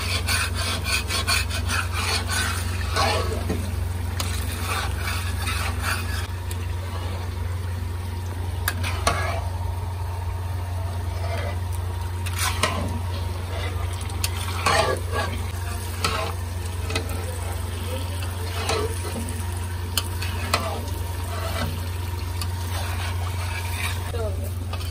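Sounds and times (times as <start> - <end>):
metal spoon scraping wok: 0.0 - 3.5, 4.2 - 7.3, 8.6 - 9.6, 10.8 - 24.9
soft frying sizzle: 0.0 - 24.9
steady low hum: 0.0 - 24.9.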